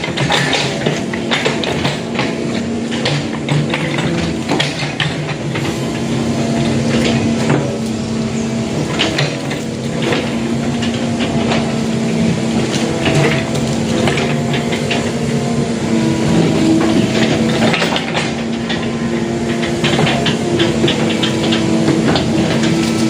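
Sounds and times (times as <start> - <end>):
metallic clanks and knocks: 0.0 - 8.0, 8.7 - 11.9, 12.6 - 15.5, 16.2 - 23.0
excavator diesel engine running: 0.0 - 23.0.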